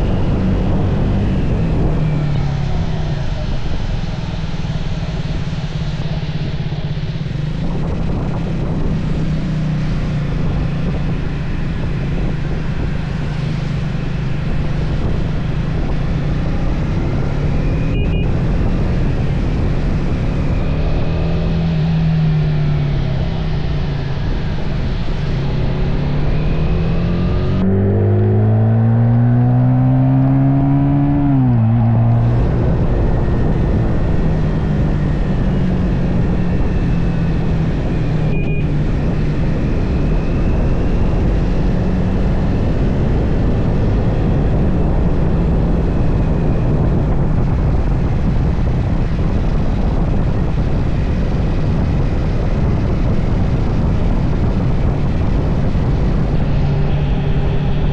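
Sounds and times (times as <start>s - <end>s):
motorcycle engine revving: 0.0s - 57.9s
steady rushing noise: 0.0s - 57.9s.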